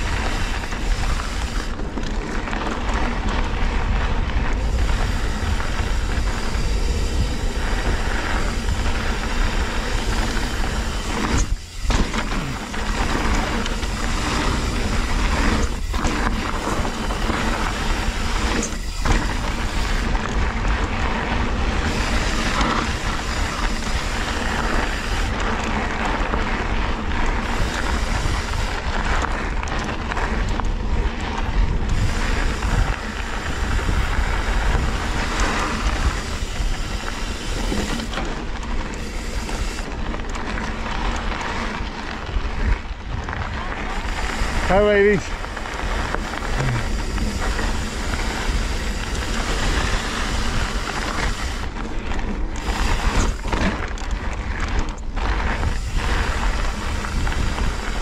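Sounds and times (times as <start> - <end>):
bike tyres rolling on dirt: 0.0 - 58.0
wind rushing over microphone: 0.0 - 58.0.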